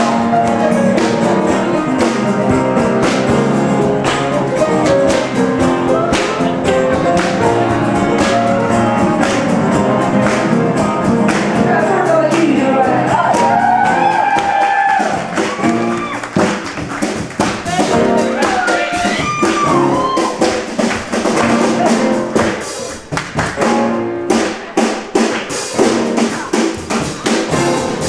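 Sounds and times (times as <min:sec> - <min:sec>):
keyboard chords: 0:00.0 - 0:28.0
percussion beat: 0:00.0 - 0:28.0.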